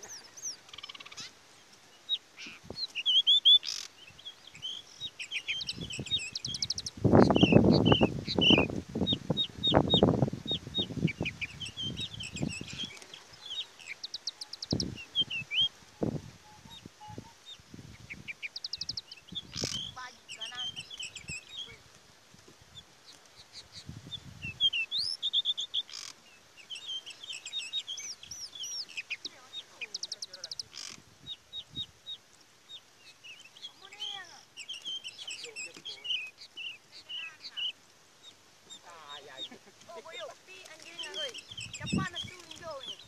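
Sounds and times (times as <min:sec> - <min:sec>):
songbirds chirping and trilling: 0:00.0 - 0:43.0.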